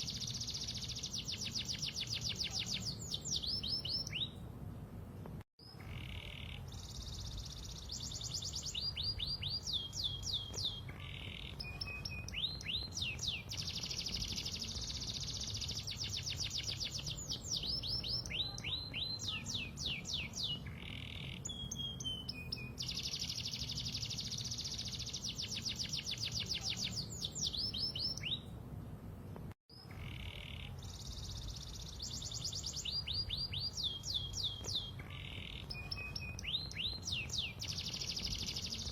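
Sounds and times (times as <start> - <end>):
canary singing: 0.0 - 4.4, 5.7 - 28.6, 29.8 - 38.9.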